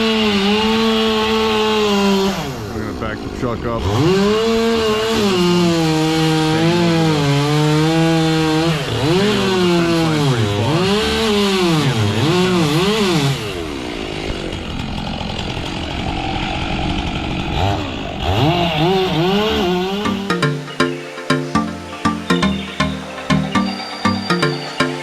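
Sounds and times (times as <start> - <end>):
chainsaw revving: 0.0 - 20.6.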